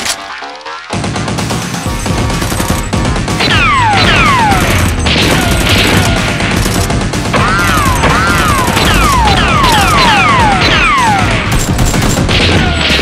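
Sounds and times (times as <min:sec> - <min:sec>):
background music: 0:00.0 - 0:13.0
rapid gunfire: 0:00.9 - 0:13.0.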